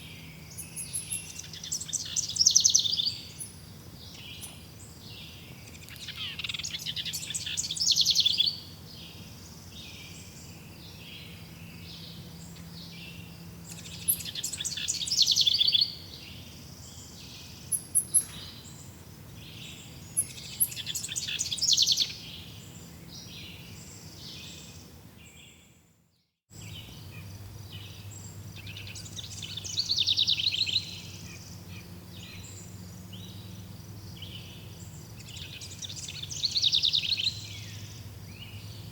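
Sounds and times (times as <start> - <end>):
soft bird chirping: 0.0 - 25.7, 26.6 - 38.9
bird song of rapid notes: 0.0 - 38.9.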